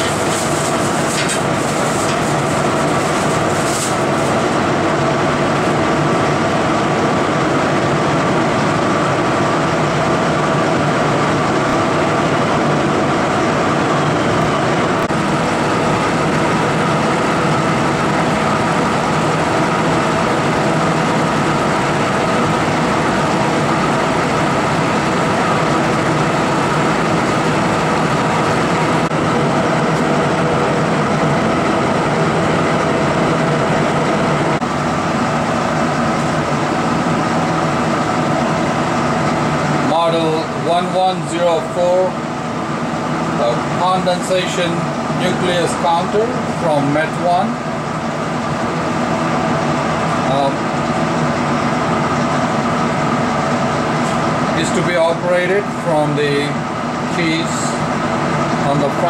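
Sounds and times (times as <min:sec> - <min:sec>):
machine pump and fan hum: 0:00.0 - 0:59.0.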